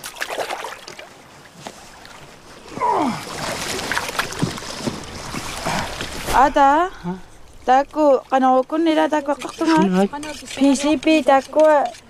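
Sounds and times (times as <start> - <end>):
water sloshing against ice: 0.0 - 12.0.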